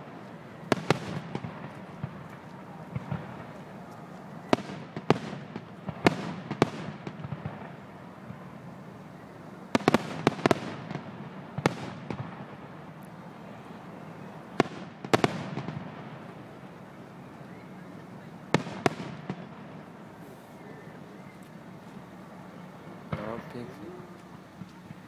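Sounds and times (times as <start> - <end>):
fireworks bursting with bangs: 0.0 - 25.0.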